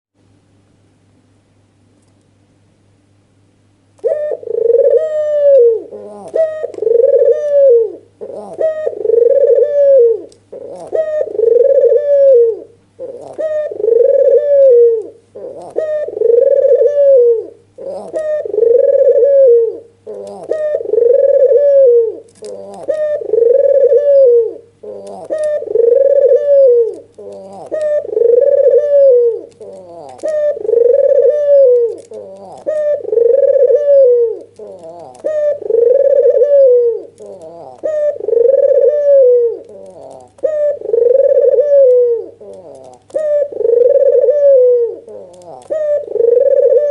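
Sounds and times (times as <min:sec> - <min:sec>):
dove cooing: 0:04.0 - 0:46.9.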